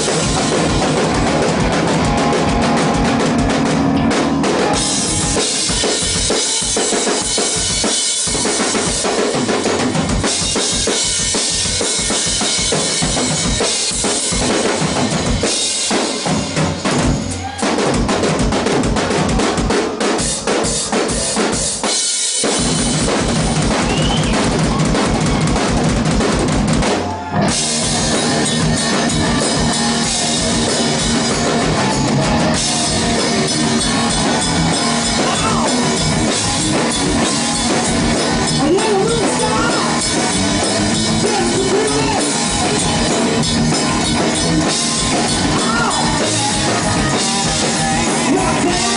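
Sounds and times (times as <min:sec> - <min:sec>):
rock drum kit solo: 0:00.0 - 0:48.9.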